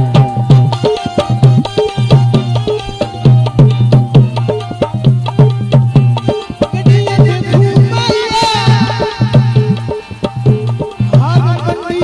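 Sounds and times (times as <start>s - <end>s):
hand drums playing quick beat: 0.0s - 12.0s.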